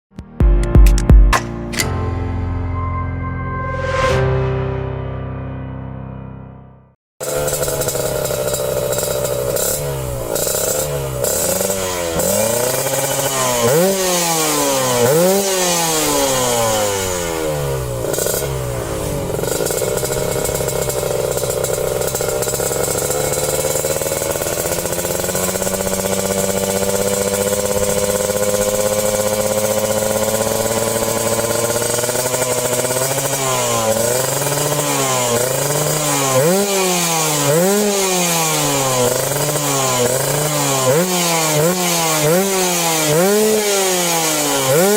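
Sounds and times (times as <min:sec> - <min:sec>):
motorcycle engine revving: 0:07.2 - 0:44.9.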